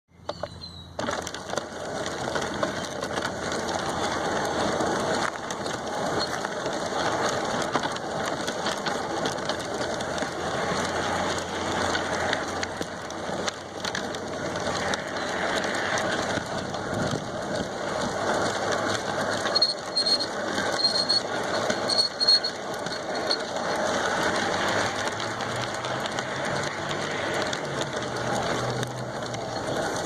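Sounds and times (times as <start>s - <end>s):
model train wheels rattling: 0.2s - 30.0s.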